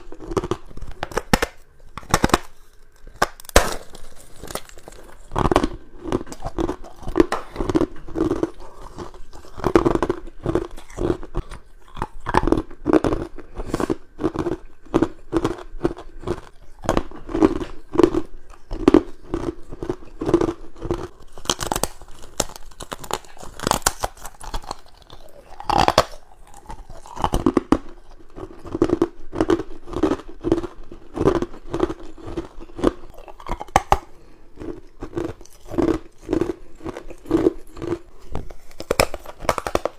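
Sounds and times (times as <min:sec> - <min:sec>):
ice crunching being bitten: 0:00.0 - 0:39.9.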